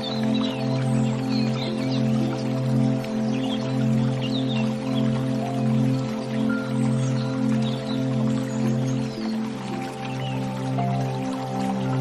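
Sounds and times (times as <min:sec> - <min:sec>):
slow steady drone music: 0:00.0 - 0:12.0.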